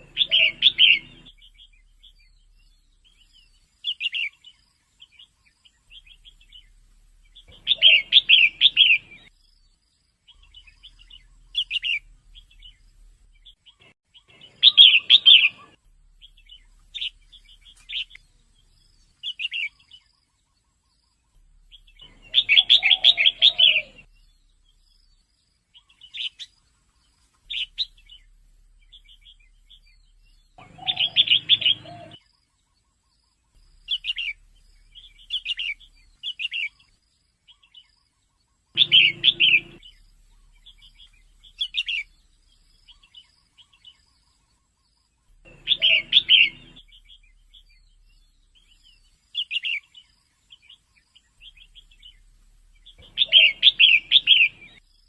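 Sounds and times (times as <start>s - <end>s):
bird chirping calls: 0.0s - 55.0s.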